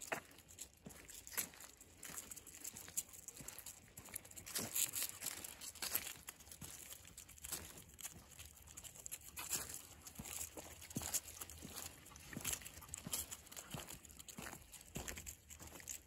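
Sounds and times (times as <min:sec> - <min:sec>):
footsteps in dry leaves: 0:00.0 - 0:16.0.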